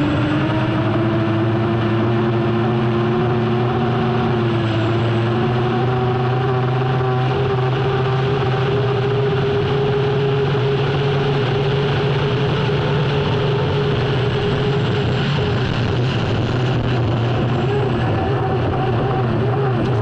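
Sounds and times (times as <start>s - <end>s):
turbine engine drone: 0.0s - 20.0s.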